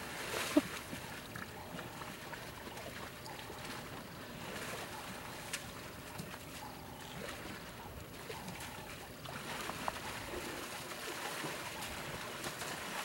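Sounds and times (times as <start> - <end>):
elephants sloshing in mud: 0.0 - 13.0.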